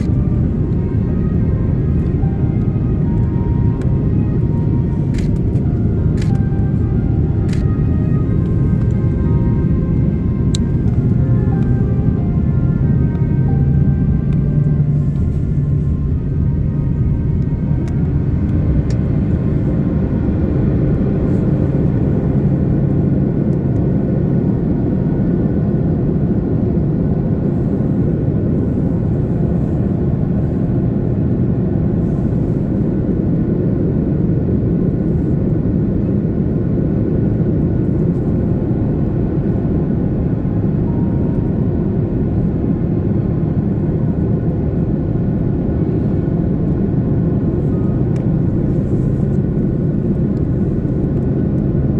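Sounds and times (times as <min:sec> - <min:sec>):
airliner cabin drone: 0:00.0 - 0:51.9.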